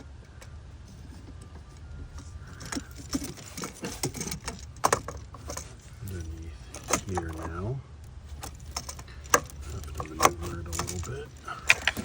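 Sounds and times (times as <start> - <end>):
plastic line clicking and rattling: 0.0 - 7.6, 8.3 - 12.0
steady low hum: 0.0 - 12.0.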